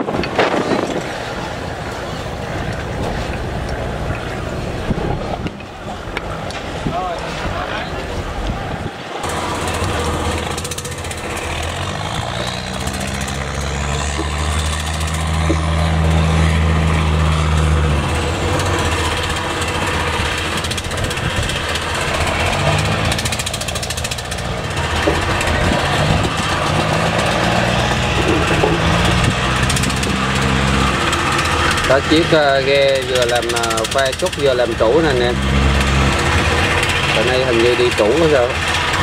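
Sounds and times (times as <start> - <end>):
boat diesel engine droning: 0.0 - 39.0.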